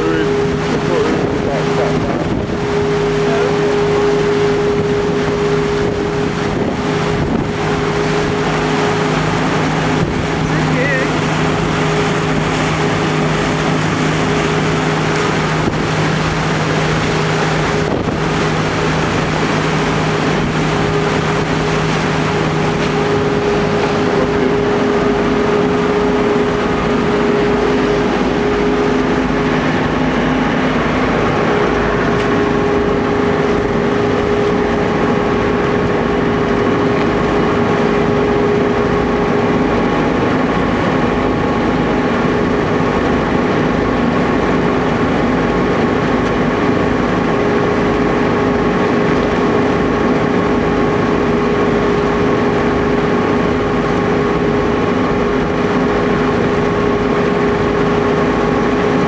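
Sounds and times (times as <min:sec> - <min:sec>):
boat engine humming: 0:00.0 - 0:59.0
churning wake: 0:00.0 - 0:59.0
wind on microphone: 0:00.0 - 0:59.0.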